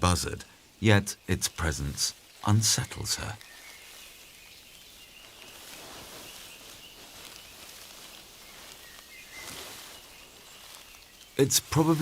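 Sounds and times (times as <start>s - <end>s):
soft outdoor hiss: 0.0s - 12.0s.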